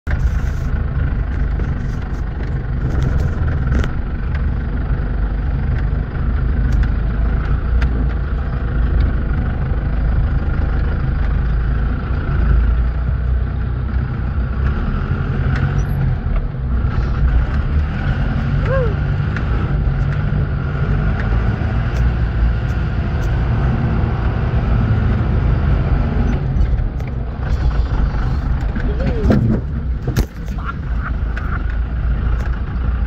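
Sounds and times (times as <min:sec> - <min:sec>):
off-road vehicle engine rumble: 0:00.0 - 0:33.0.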